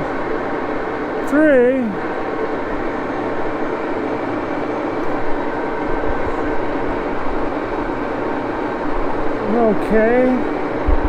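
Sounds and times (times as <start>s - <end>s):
lathe running with steady hum: 0.0s - 11.0s.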